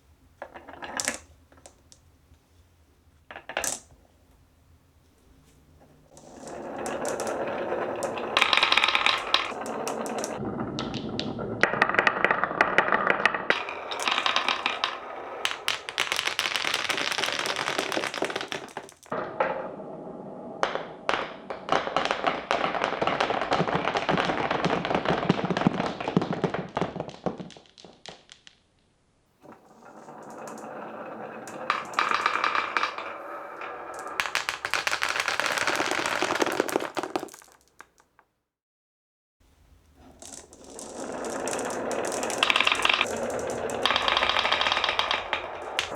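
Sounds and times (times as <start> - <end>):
marbles rolling down wooden tracks: 0.4 - 2.0, 3.3 - 3.9, 6.0 - 20.0, 20.6 - 28.6, 29.4 - 38.3, 40.0 - 45.9.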